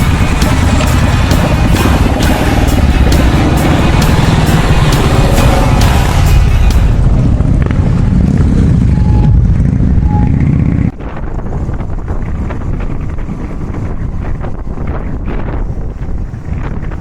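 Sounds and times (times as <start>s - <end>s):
motorcycle engine rumbling: 0.0s - 17.0s
wind on microphone: 0.0s - 17.0s.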